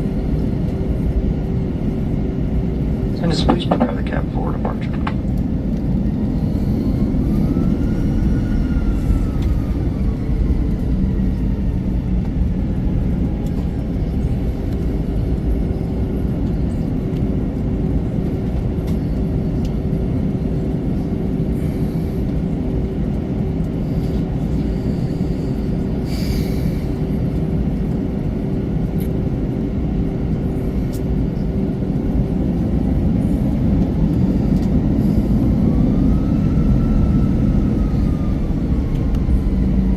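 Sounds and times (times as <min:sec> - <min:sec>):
aircraft cabin rumble: 0:00.0 - 0:39.9
faint whine: 0:00.0 - 0:39.9
steady hum: 0:00.0 - 0:39.9.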